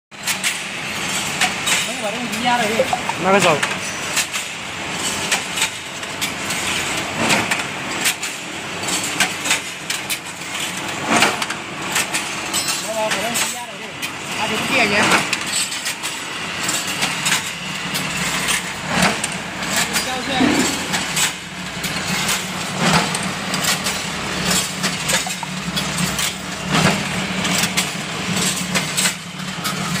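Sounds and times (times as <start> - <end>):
machine sharp clacks: 0.2 - 13.6, 15.1 - 30.0
rolling machine clatter: 0.2 - 30.0.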